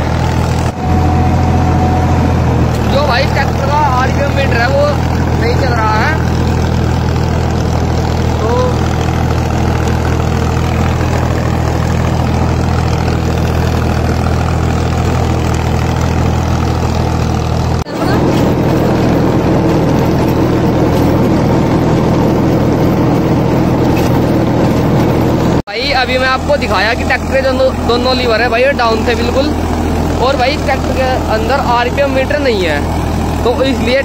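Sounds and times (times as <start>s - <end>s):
rotavator churning: 0.0s - 34.0s
tractor diesel engine under load: 0.0s - 34.0s.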